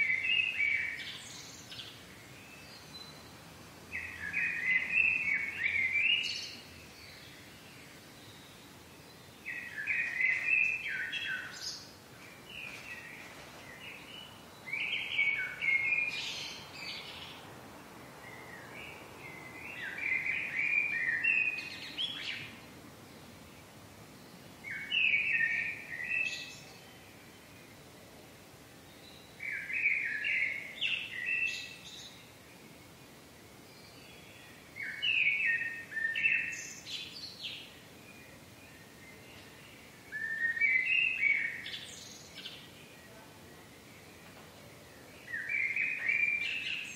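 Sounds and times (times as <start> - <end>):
faint steady background noise: 0.0 - 46.9
songbird singing: 0.0 - 46.9.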